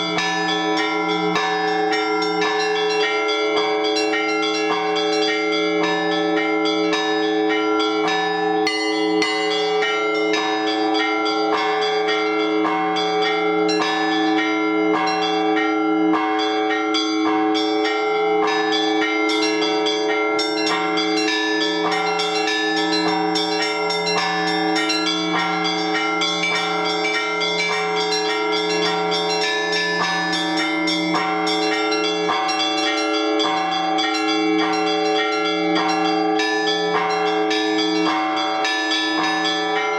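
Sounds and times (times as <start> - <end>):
small bells striking quickly: 0.0 - 16.2, 16.9 - 39.9
deep bell struck slowly: 0.0 - 39.9
hum of larger bells: 0.0 - 39.9.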